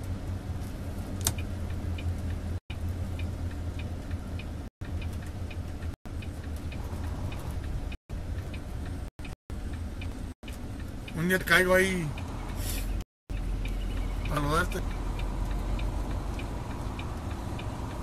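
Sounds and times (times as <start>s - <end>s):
diesel truck engine droning: 0.0s - 18.0s
turn signal ticking: 0.0s - 18.0s.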